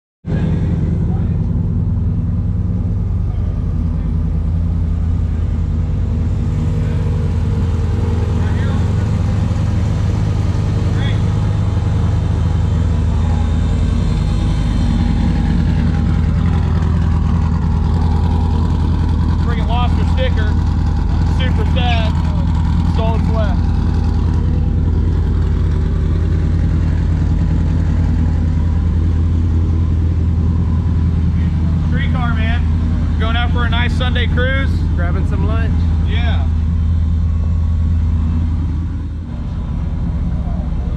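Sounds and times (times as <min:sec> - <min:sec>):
car engine running: 0:00.2 - 0:40.9.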